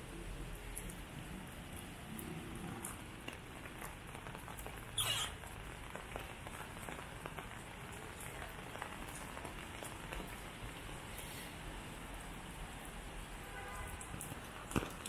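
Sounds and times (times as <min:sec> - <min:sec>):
steady rain on paving: 0:00.0 - 0:15.0.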